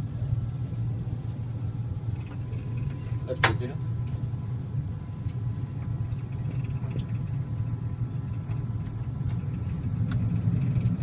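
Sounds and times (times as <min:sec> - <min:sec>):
aircraft engine idling: 0:00.0 - 0:11.0.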